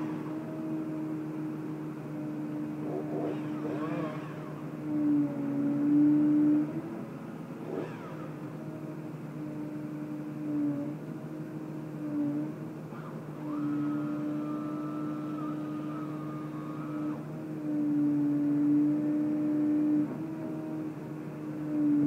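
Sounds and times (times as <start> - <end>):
high-pitched whine: 0.0 - 6.9, 7.5 - 10.8, 12.9 - 20.4
crane engine and hydraulics droning: 0.0 - 22.0.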